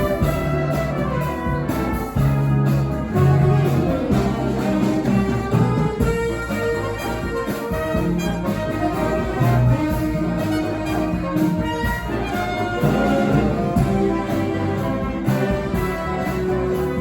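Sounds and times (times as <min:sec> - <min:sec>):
street brass band playing: 0:00.0 - 0:17.0.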